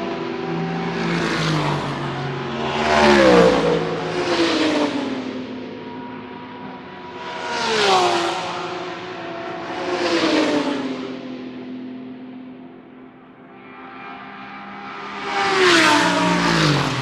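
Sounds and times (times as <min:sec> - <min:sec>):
race cars passing at speed: 0:00.0 - 0:17.0.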